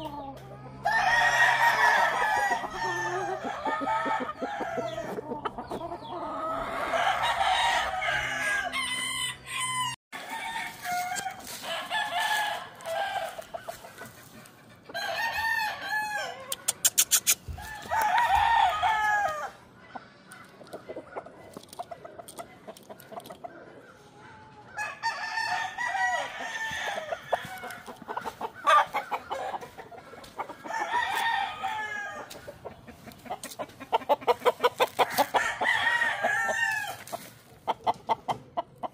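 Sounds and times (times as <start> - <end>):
roosters crowing: 0.0 - 19.7, 21.0 - 38.0
chicken clucking: 0.0 - 38.9.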